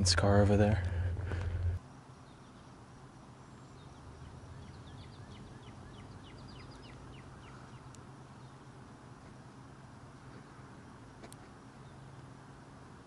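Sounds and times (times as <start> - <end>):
low steady hum: 0.0 - 13.0
songbird chirping: 0.0 - 13.0.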